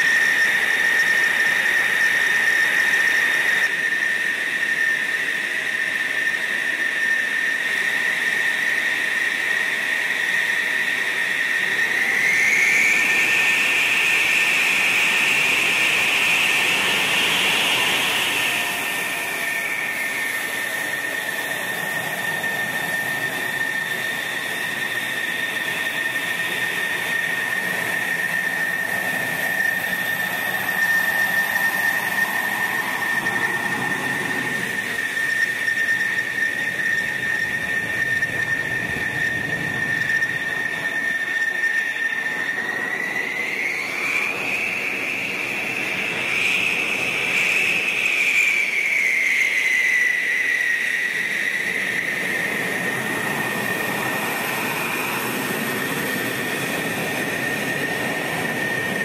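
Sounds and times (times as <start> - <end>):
higher engine whine: 0.0 - 59.0
jet engine idling: 0.0 - 59.0.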